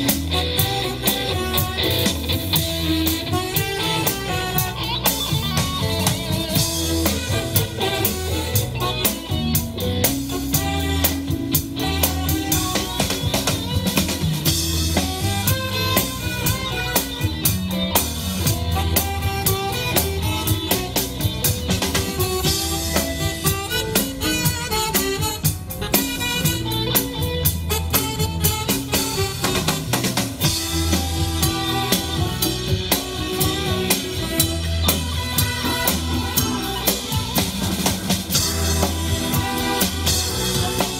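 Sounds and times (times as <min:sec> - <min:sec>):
drum kit beat: 0:00.0 - 0:40.9
keyboard playing chords: 0:00.0 - 0:40.9.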